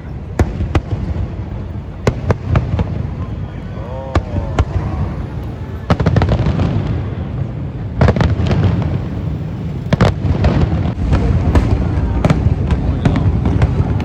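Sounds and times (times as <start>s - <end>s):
fireworks booming: 0.0s - 14.0s
fireworks crackling: 0.0s - 14.0s.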